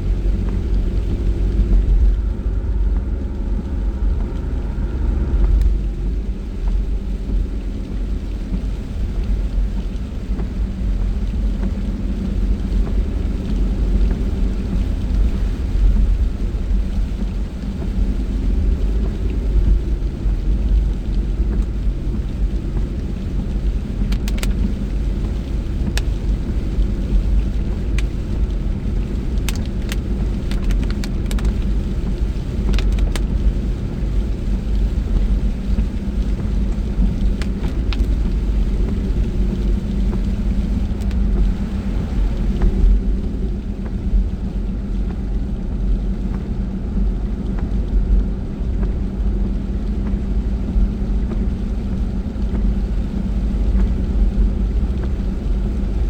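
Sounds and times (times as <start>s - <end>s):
engine and tyre rumble: 0.0s - 56.0s.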